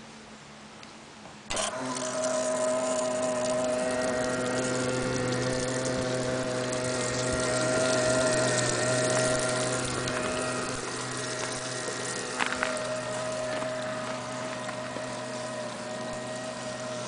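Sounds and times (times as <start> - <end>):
electric pump humming: 1.4 - 17.0.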